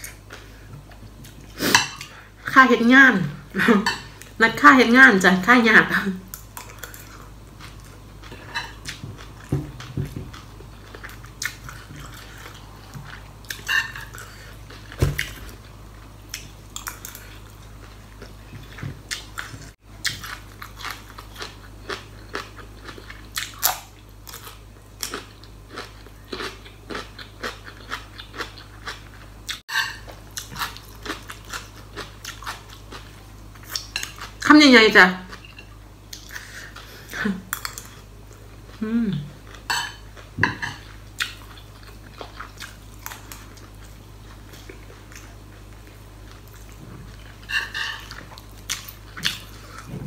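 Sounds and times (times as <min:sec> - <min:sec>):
person chewing crunchy food: 0:06.3 - 0:34.4, 0:35.3 - 0:50.0.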